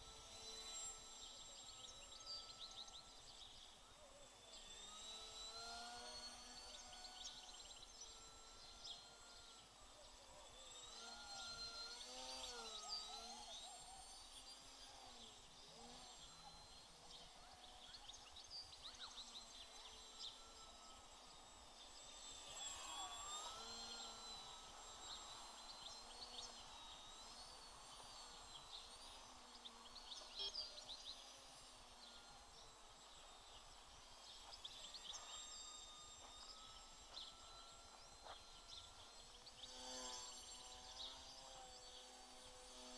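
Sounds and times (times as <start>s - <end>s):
distant drone motors whining: 0.0s - 42.9s.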